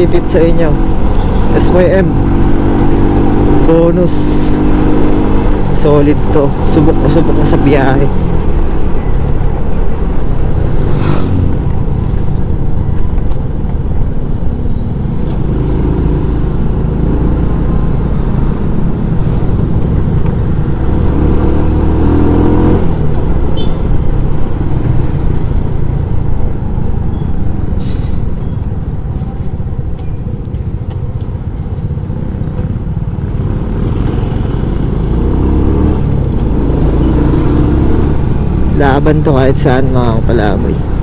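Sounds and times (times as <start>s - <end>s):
wind and road noise: 0.0s - 41.0s.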